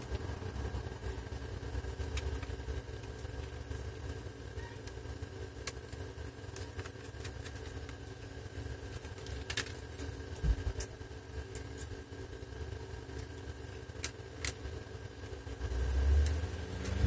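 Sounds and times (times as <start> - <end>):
digger engine hum: 0.0 - 8.8, 10.2 - 17.0.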